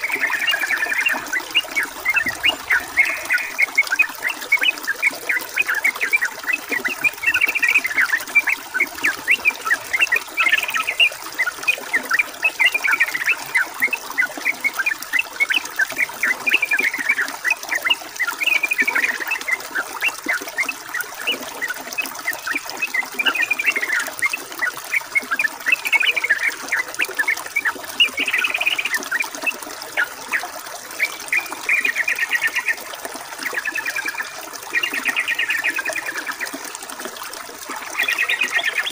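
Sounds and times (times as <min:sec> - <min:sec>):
bulbuls chirping and trilling: 0:00.0 - 0:21.4, 0:22.3 - 0:32.8, 0:33.5 - 0:36.5, 0:37.8 - 0:38.9
running water: 0:00.0 - 0:38.9.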